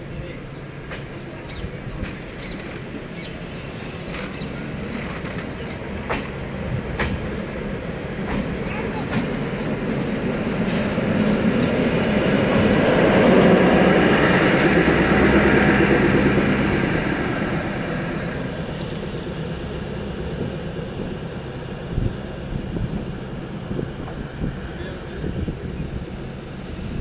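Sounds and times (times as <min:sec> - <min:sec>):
passenger train rolling past: 0:00.0 - 0:27.0.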